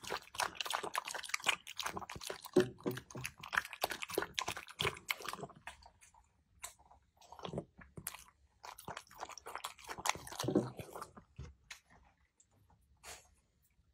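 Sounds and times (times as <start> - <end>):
dog chewing and crunching food: 0.0 - 12.2.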